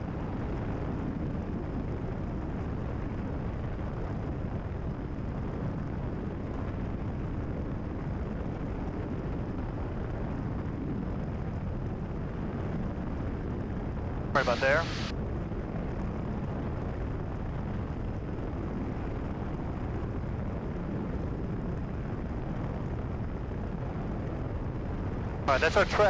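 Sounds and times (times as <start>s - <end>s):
light aircraft engine drone: 0.0s - 26.0s.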